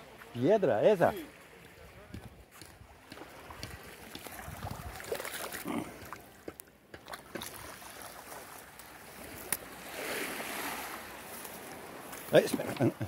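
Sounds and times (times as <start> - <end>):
small waves lapping on shore: 0.0 - 13.0.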